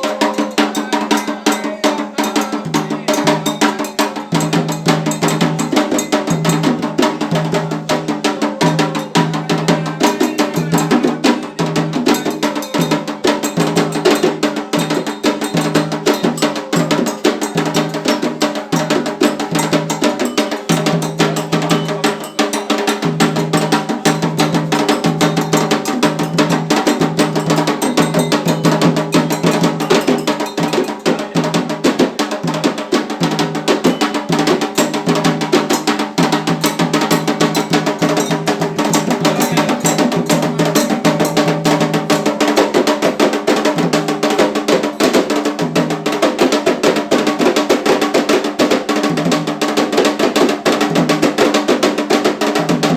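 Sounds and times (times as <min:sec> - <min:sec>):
clanking metal bell: 0:00.0 - 0:07.7, 0:08.6 - 0:32.1, 0:33.2 - 0:43.2, 0:43.8 - 0:45.9
hand drums: 0:00.0 - 0:52.9.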